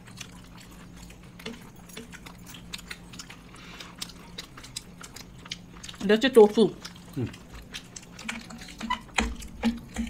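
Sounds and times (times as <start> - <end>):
faint steady hum: 0.0 - 10.0
people chewing food: 0.0 - 10.0.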